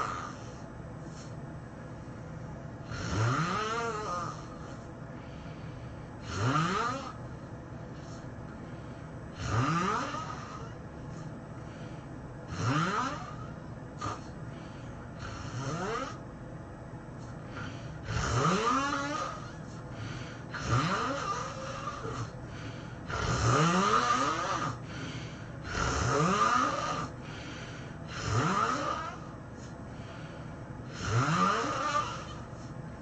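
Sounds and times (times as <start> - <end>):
person snoring heavily: 0.0 - 1.3, 2.8 - 4.8, 6.2 - 7.3, 9.3 - 16.2, 17.5 - 32.7.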